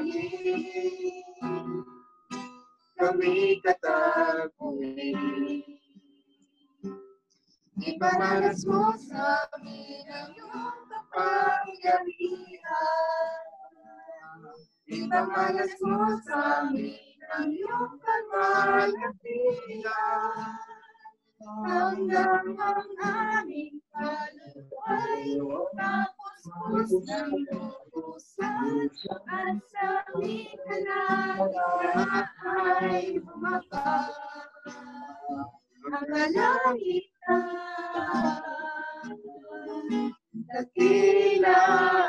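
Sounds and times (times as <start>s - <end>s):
person singing worship song: 0.0s - 1.8s, 3.0s - 6.0s, 7.8s - 42.0s
acoustic guitar: 0.0s - 42.0s.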